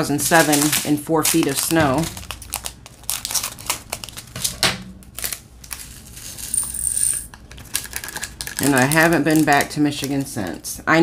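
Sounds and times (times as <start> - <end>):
plastic bag crinkling: 0.0 - 6.5, 7.3 - 10.7.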